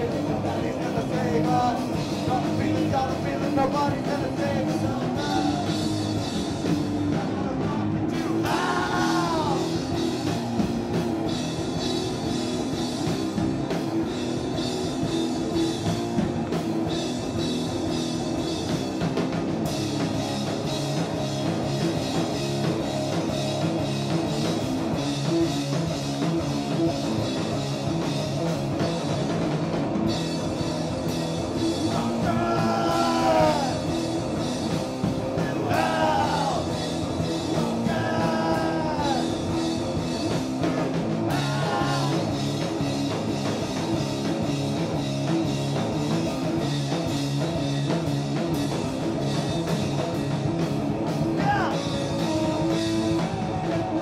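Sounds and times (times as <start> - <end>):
distorted electric guitar: 0.0 - 54.0
heavy rock band playing: 0.0 - 54.0
pounding drum kit: 0.0 - 54.0.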